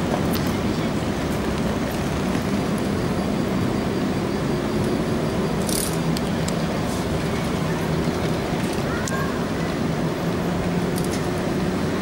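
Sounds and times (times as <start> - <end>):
city background noise: 0.0 - 12.0
tram motors humming: 0.0 - 12.0.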